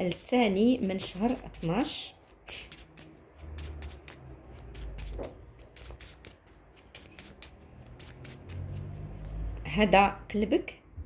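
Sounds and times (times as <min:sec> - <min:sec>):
cards being shuffled: 0:00.0 - 0:09.6.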